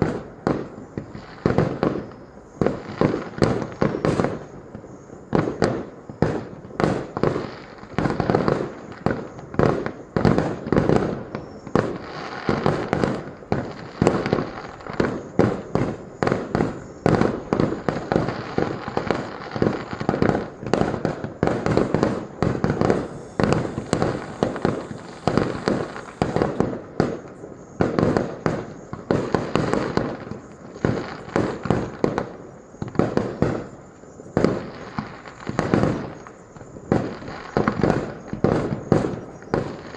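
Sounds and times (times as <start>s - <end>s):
firework bangs: 0.0s - 39.9s.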